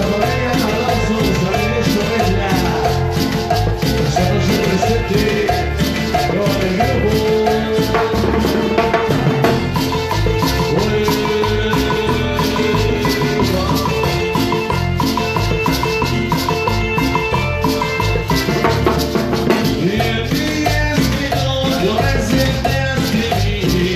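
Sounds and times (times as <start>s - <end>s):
band playing latin dance music: 0.0s - 23.9s.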